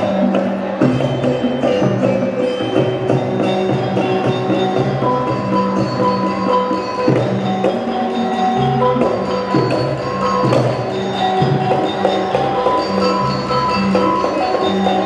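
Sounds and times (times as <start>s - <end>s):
struck metal mallet instruments: 0.0s - 15.0s.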